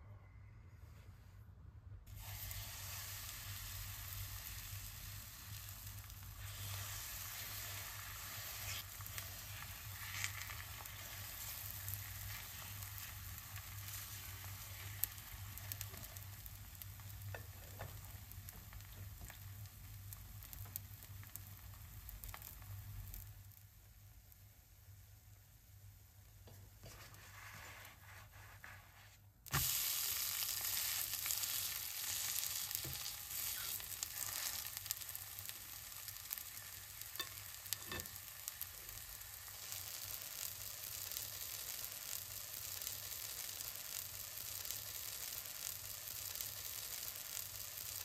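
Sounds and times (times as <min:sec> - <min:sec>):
batter sizzling in hot oil: 0:02.1 - 0:48.0.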